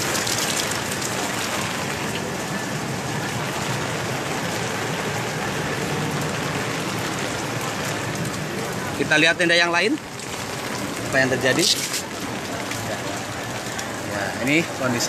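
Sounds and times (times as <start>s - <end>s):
heavy rain on tent fabric: 0.0s - 15.0s.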